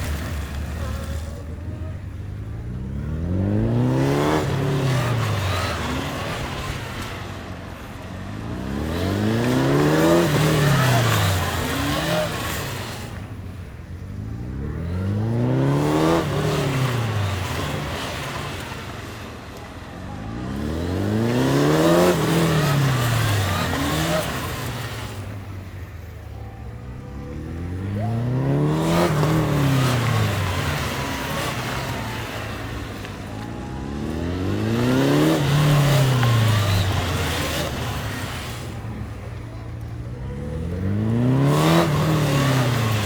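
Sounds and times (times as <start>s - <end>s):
motorcycle engines accelerating: 0.0s - 43.0s.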